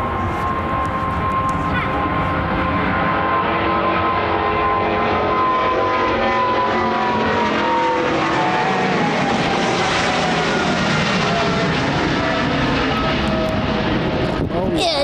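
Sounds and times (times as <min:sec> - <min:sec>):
jet airliner passing low: 0:00.0 - 0:15.0.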